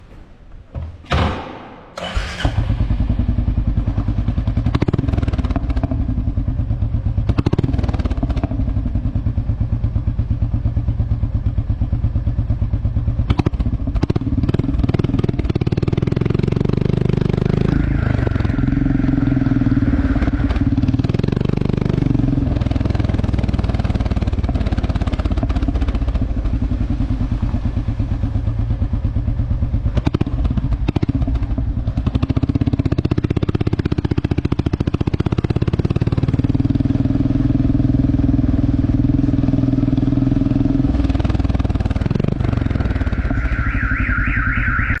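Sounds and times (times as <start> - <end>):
motorcycle engine starting and running: 0.0 - 45.0
motorcycle engine revving: 2.0 - 45.0.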